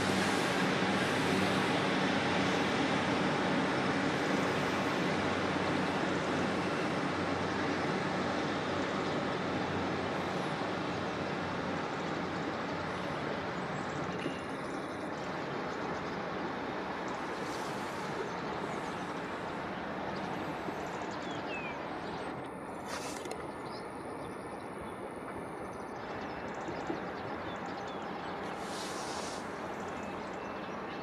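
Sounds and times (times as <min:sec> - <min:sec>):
diesel train engines pulling away: 0:00.0 - 0:31.0.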